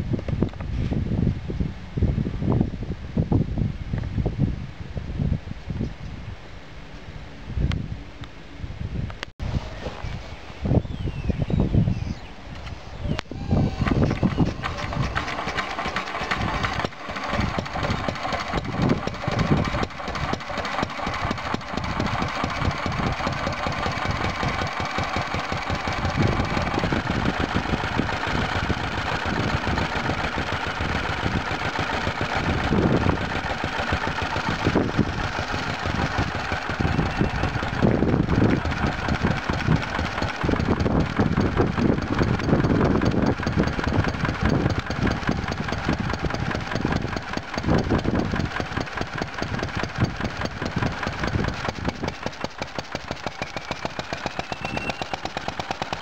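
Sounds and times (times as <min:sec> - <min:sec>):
stationary engine running steadily: 0:06.8 - 0:56.0.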